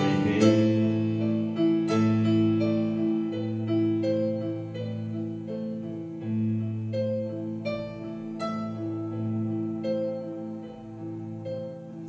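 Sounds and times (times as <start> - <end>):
keyboard notes: 0.0 - 12.0.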